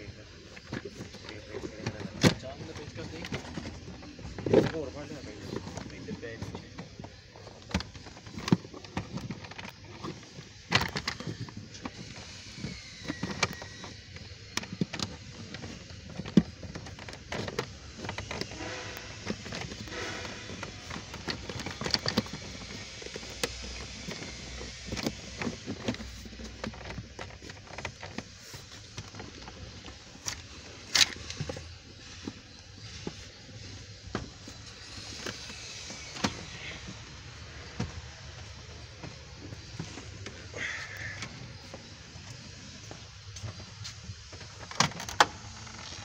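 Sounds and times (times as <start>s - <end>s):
plastic trim clicking and scraping: 0.5s - 37.8s, 44.2s - 46.0s.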